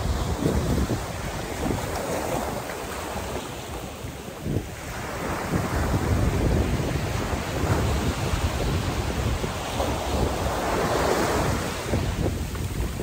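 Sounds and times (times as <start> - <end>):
small waves washing over sand: 0.0 - 13.0
wind rumbling on microphone: 0.0 - 13.0.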